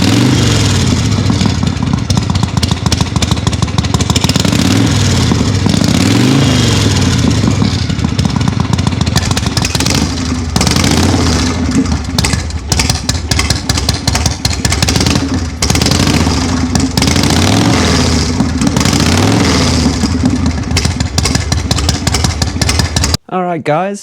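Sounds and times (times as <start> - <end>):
motorcycle engine revving: 0.0 - 23.2.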